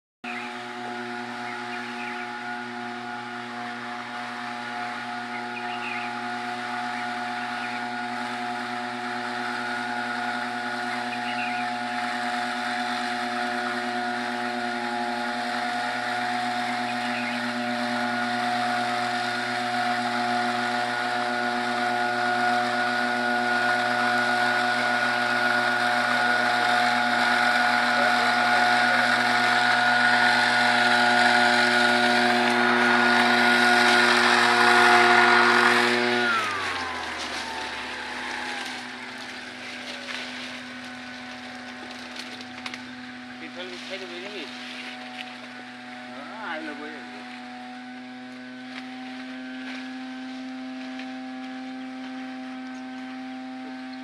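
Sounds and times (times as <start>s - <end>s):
small engine running: 0.2s - 54.0s.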